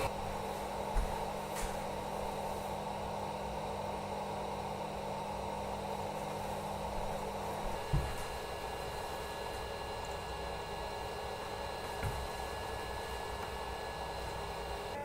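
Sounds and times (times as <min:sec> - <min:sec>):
immersion circulator pump whirring: 0:00.0 - 0:15.0.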